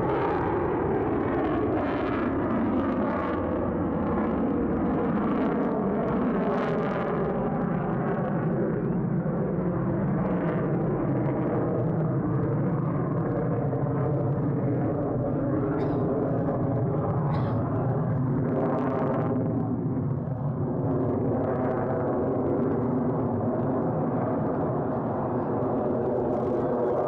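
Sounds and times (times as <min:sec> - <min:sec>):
jet engines rushing overhead: 0:00.0 - 0:27.0.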